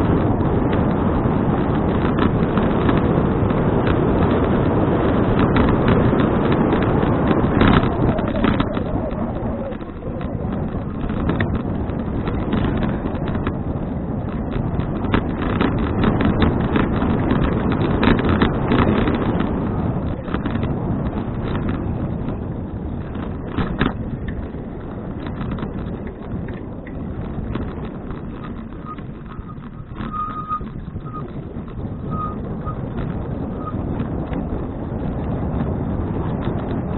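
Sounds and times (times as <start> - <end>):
bicycle clicks and rattles: 0.0 - 36.9
wind on camera microphone: 0.0 - 36.9.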